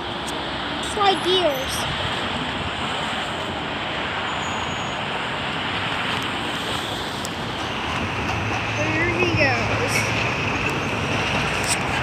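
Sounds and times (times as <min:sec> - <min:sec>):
passenger train rolling past: 0:00.0 - 0:12.0.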